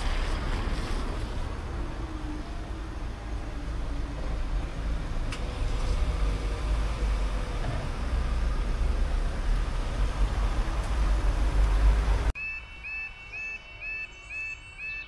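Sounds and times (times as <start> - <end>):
car engines and tyres: 0.0 - 15.0.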